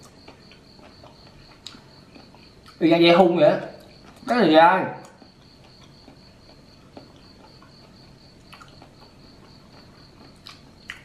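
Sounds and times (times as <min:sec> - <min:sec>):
soft chewing clicks: 0:00.0 - 0:02.8, 0:03.6 - 0:04.3, 0:05.0 - 0:11.0.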